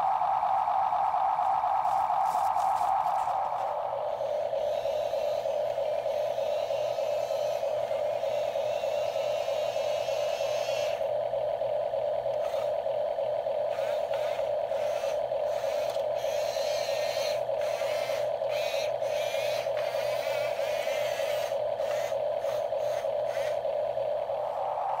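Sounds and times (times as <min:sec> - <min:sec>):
wavering high gear whine: 0:00.0 - 0:25.0
toy truck electric motor whining: 0:00.5 - 0:24.6.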